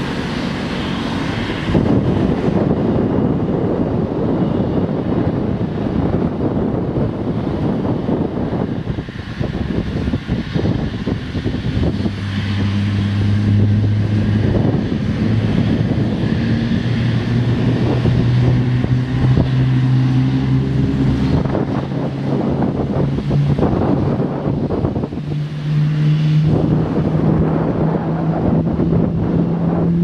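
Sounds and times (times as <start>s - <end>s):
jet engines humming: 0.0s - 30.0s
wind buffeting microphone: 0.0s - 30.0s.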